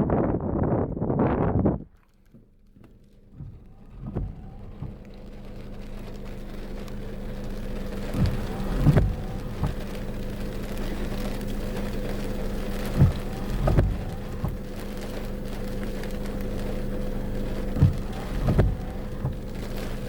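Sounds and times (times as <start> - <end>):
car driving hum: 0.0 - 20.0
short dull thumps: 1.2 - 20.0.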